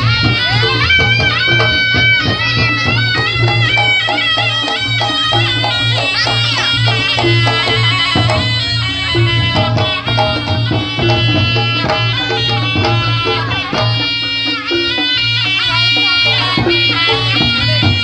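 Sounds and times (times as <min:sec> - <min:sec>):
drum strokes: 0:00.0 - 0:18.0
reedy shawm-like melody: 0:00.0 - 0:18.0.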